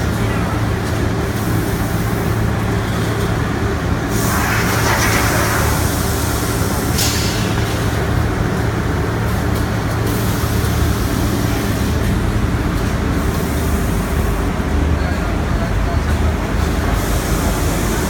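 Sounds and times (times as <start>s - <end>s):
machine mechanical drone: 0.0s - 18.0s.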